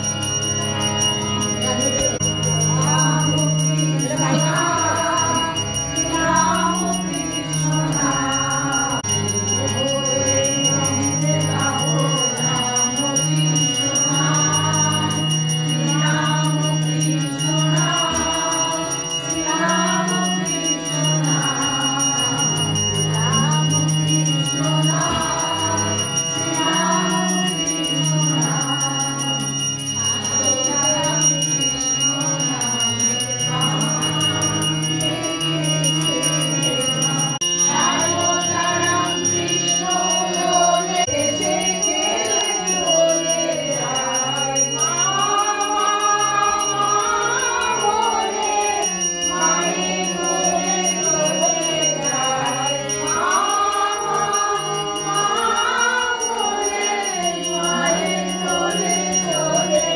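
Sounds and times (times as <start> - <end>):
hand bell ringing: 0.0 - 59.9
harmonium: 0.0 - 59.9
group singing devotional song: 1.6 - 59.9.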